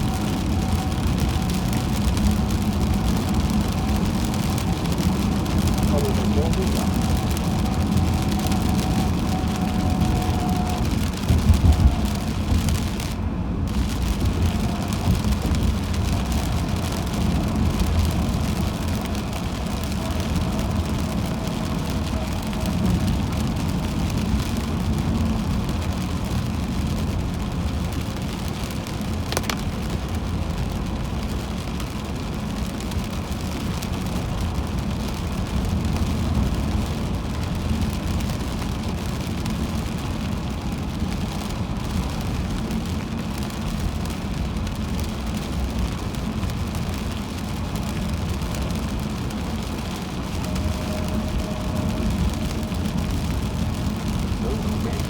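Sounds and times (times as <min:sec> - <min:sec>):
rain on car: 0:00.0 - 0:55.0
tyre noise on wet road: 0:00.0 - 0:55.0.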